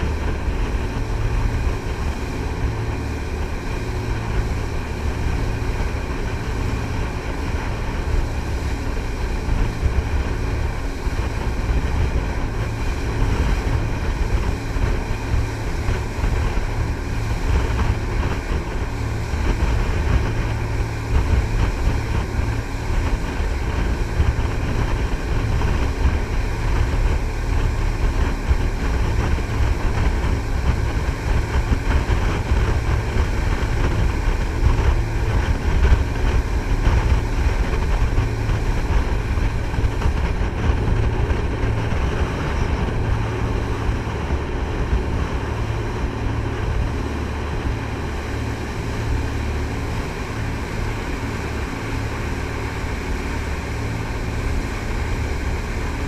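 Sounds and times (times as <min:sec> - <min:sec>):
boat engine drone: 0:00.0 - 0:56.0
wind noise: 0:00.0 - 0:56.0.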